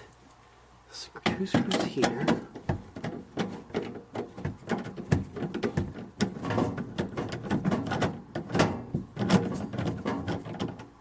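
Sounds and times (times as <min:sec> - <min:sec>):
tools clicking and knocking on parts: 0:01.2 - 0:11.0.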